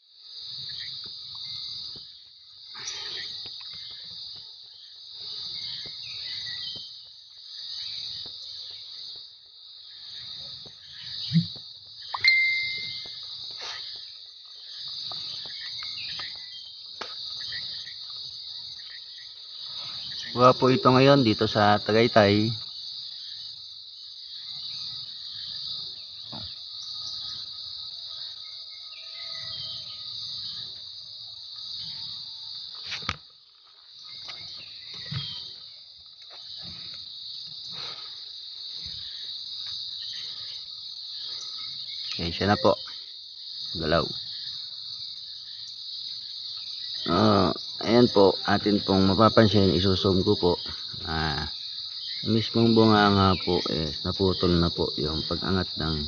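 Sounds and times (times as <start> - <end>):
crickets chirping: 0.0 - 56.0
insects trilling: 0.0 - 56.0.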